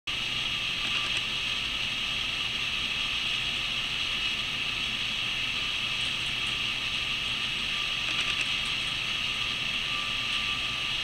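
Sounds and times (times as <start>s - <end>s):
steady hiss: 0.1s - 11.0s.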